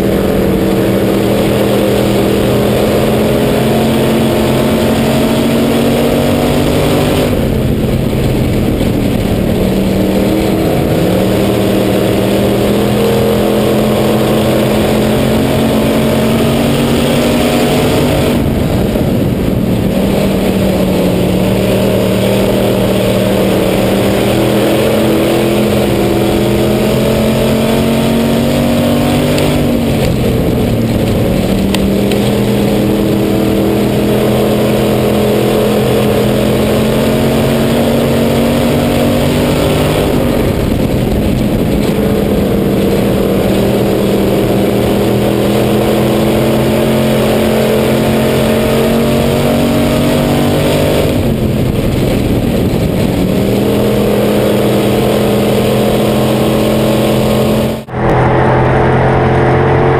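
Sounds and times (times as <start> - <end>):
race car engine revving: 0.0 - 59.9
wind and tyre noise: 0.0 - 59.9.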